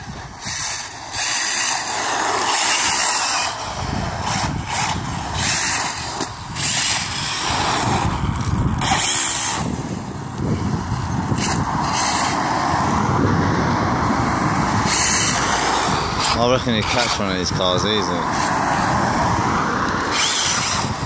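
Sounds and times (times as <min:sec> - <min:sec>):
rc car motor whining: 0:00.0 - 0:13.1, 0:14.1 - 0:21.0
steady rough rumble: 0:00.0 - 0:21.0.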